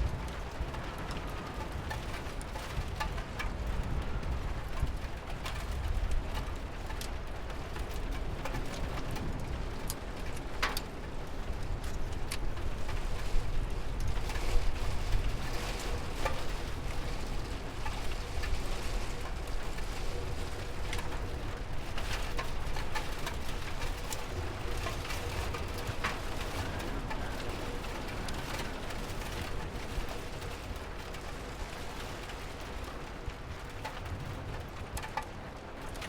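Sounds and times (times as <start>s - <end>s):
rain patter: 0.0s - 36.0s.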